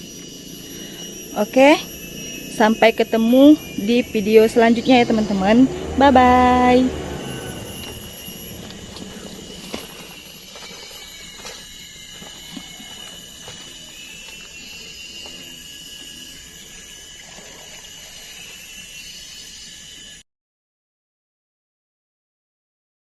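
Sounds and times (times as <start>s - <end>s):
high-pitched insect chorus: 0.0s - 20.2s.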